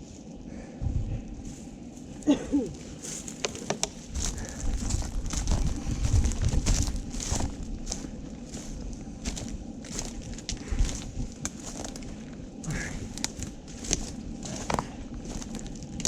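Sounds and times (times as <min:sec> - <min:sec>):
low wind rumble on microphone: 0:00.0 - 0:16.0
crunching steps through debris: 0:03.0 - 0:16.0.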